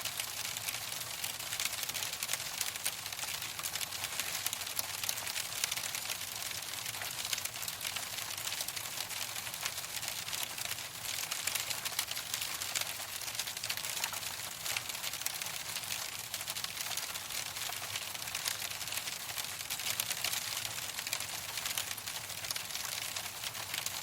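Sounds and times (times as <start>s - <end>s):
hail falling: 0.4s - 24.0s.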